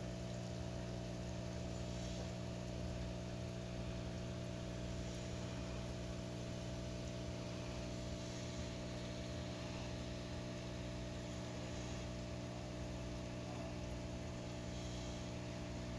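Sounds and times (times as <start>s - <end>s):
aquarium pump humming: 0.0s - 15.9s.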